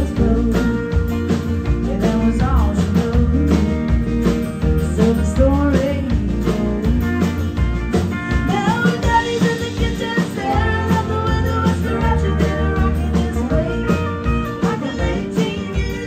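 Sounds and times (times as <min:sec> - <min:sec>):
woman singing lead vocal: 0:00.0 - 0:07.6, 0:08.3 - 0:16.0
bass guitar: 0:00.0 - 0:16.0
drums: 0:00.0 - 0:16.0
electric and acoustic guitars: 0:00.0 - 0:16.0.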